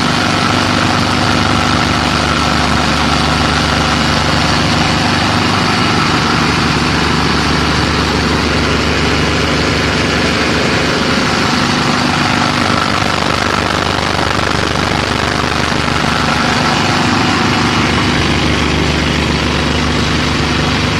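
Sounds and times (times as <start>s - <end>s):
drilling mud flowing over screens: 0.0s - 20.9s
vibrator motor drone: 0.0s - 20.9s.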